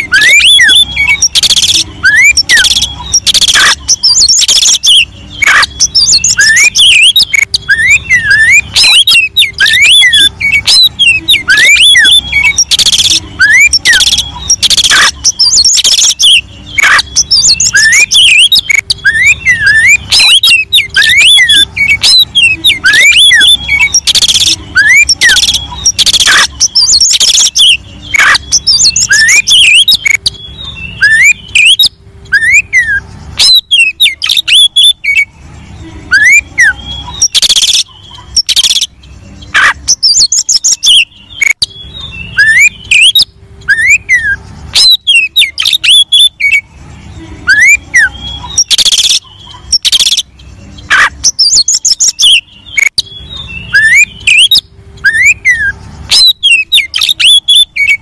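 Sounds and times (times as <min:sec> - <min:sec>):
magpie-robin singing: 0:00.0 - 0:58.0.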